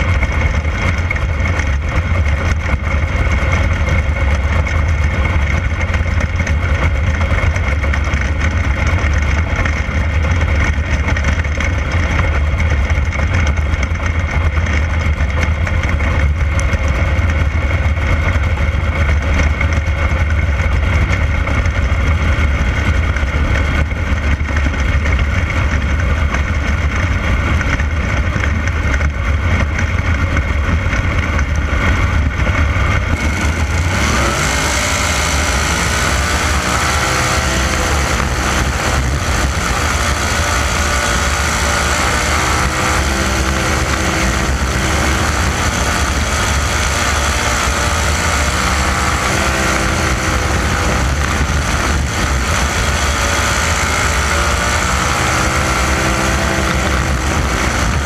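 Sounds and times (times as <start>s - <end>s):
heavy low rumble: 0.0s - 58.0s
race car engine running: 0.0s - 58.0s.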